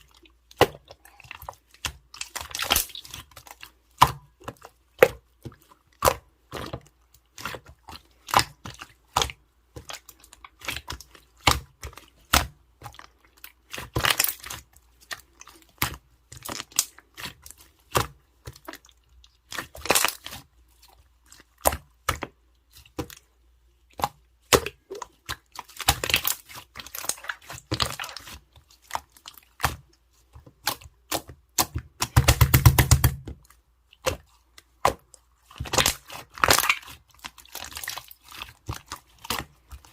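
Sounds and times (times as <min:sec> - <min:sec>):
slime clicking and crackling: 0:00.5 - 0:23.2, 0:24.0 - 0:39.9.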